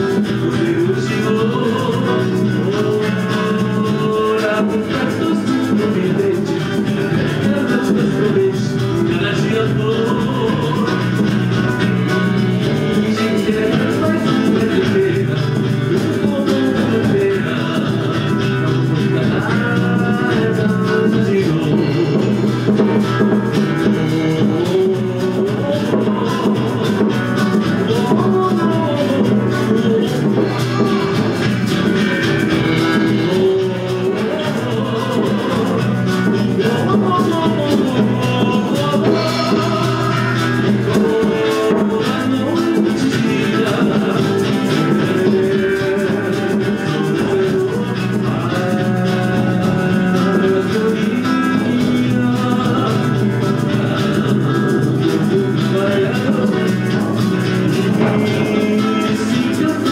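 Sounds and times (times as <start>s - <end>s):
drum kit: 0.0s - 59.9s
person singing: 0.0s - 59.9s
strummed guitar: 0.0s - 59.9s.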